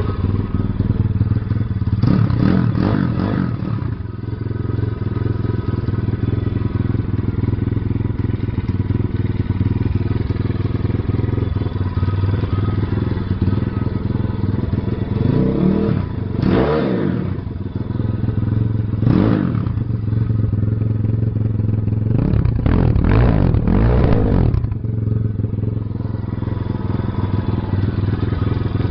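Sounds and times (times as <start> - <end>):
motorbike engine idling and revving: 0.0 - 28.9.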